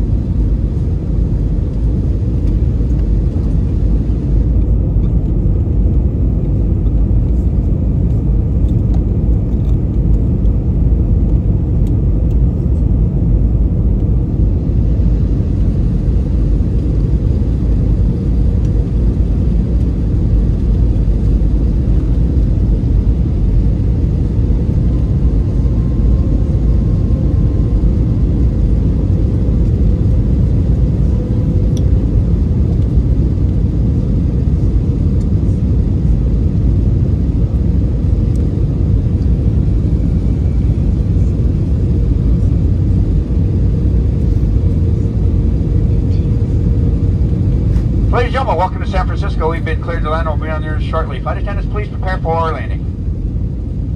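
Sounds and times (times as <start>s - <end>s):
airliner cabin roar: 0.0s - 53.9s
faint hum: 0.0s - 53.9s.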